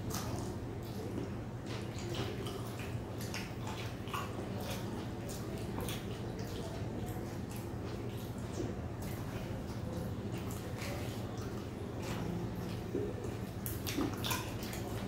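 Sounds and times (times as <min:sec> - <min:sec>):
chewing and lip-smacking: 0:00.0 - 0:15.0.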